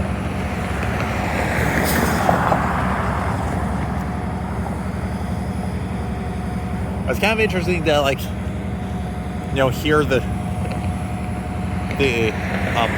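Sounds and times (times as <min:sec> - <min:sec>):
diesel locomotives idling: 0:00.0 - 0:12.9
road vehicle passing: 0:00.0 - 0:12.9.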